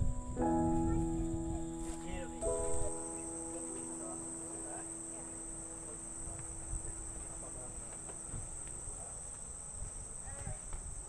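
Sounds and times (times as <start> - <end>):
faint distant voices: 0.0 - 11.0
insects droning: 0.0 - 11.0.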